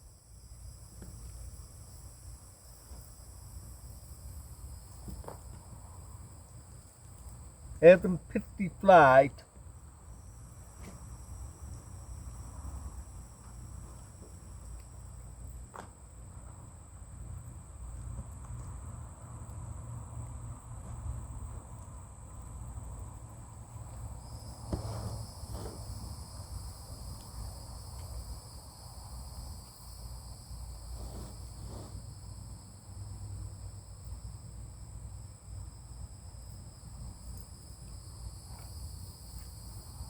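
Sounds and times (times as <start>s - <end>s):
crickets chirping: 0.0s - 40.0s
lower insect tone: 0.0s - 40.0s.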